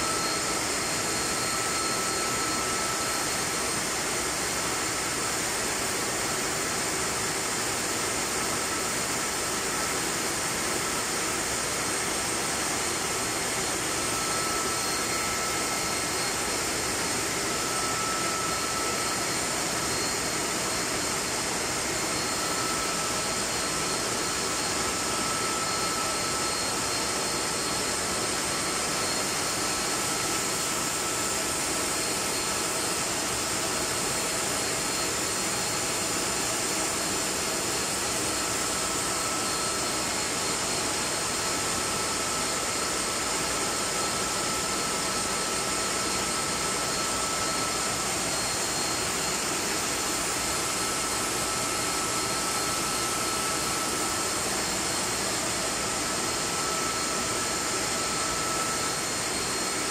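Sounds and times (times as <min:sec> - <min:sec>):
compressor machinery roaring: 0:00.0 - 0:59.9
high mechanical whines: 0:08.4 - 0:59.9.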